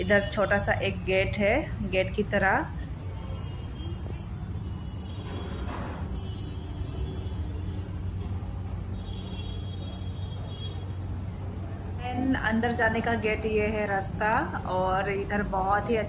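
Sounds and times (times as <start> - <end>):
faint background noise: 0.0 - 16.0.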